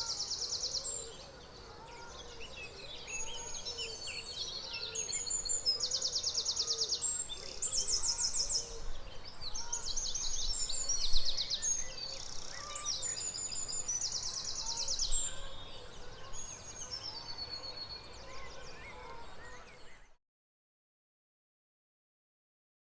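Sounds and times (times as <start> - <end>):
songbirds singing: 0.0 - 20.2.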